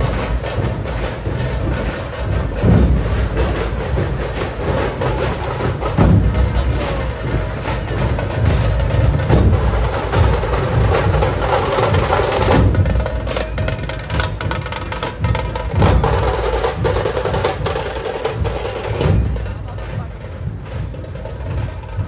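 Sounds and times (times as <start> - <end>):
loud drum-heavy music with bass: 0.0 - 22.0.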